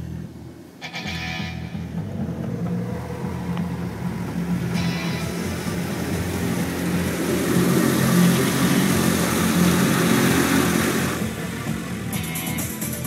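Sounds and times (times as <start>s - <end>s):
low hum: 0.0s - 13.0s
water spraying over a car: 2.4s - 13.0s.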